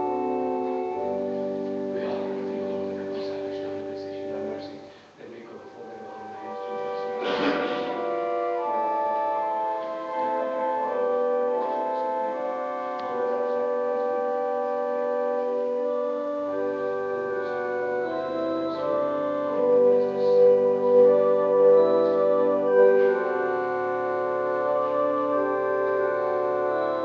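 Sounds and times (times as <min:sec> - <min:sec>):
church organ playing chords: 0:00.0 - 0:27.0.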